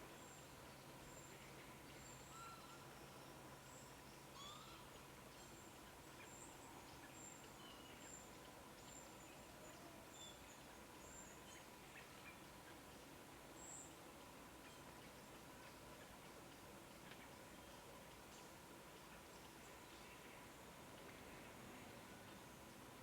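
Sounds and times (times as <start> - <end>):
quiet hiss: 0.0 - 23.0.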